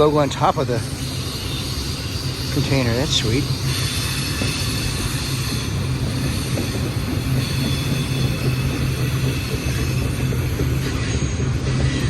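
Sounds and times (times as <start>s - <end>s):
faint high squealing: 0.0s - 12.0s
train wheels rumbling on rails: 0.0s - 12.0s.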